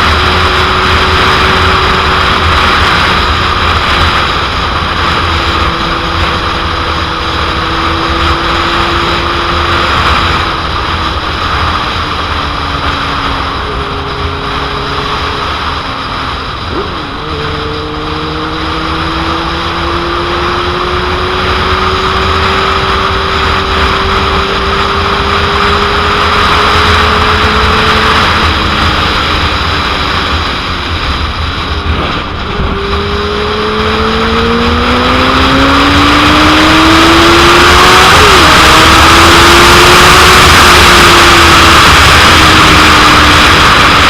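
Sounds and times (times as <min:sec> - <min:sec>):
wind noise on microphone: 0:00.0 - 0:44.0.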